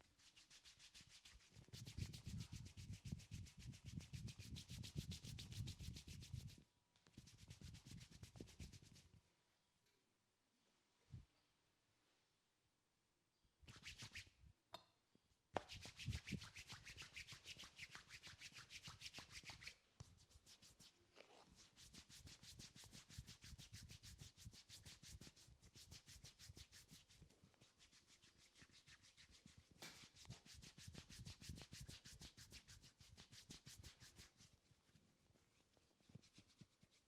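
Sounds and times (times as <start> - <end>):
hands rubbing hair: 0.0 - 9.2, 13.7 - 14.3, 15.6 - 35.0, 35.6 - 37.0.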